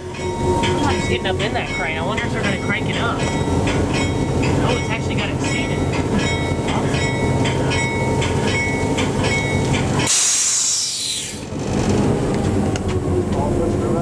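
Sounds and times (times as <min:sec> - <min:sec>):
train wheels clicking: 0:00.0 - 0:13.9
train rumbling: 0:00.0 - 0:14.0.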